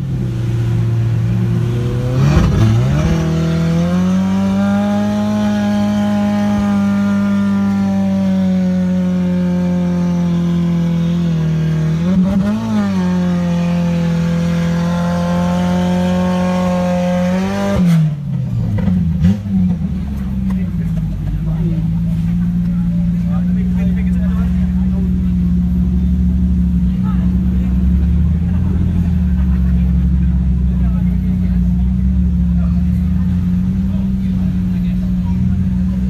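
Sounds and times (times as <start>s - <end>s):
pickup engine revving high: 0.0s - 36.0s.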